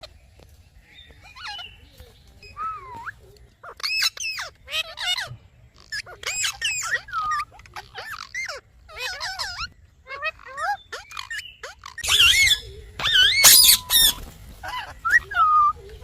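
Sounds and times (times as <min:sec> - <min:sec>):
parrot chattering calls: 0:02.5 - 0:15.8.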